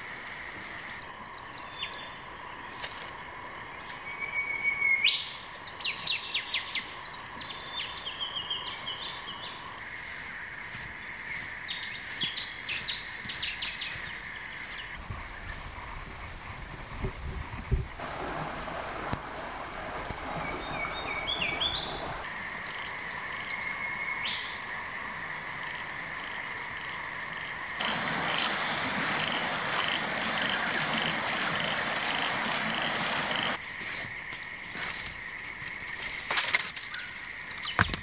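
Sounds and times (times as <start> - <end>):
frogs calling: 0.0 - 17.5, 20.8 - 38.0
insects: 0.0 - 18.1, 20.4 - 38.0.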